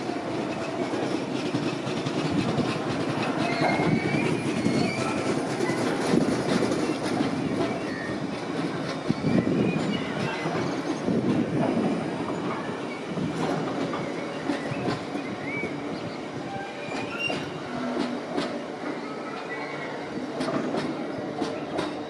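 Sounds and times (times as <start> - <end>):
train wheels clattering over rail joints: 0.0 - 15.9, 16.6 - 19.0, 20.2 - 22.0
train rumble: 0.0 - 22.0
wheel squeals: 3.2 - 22.0.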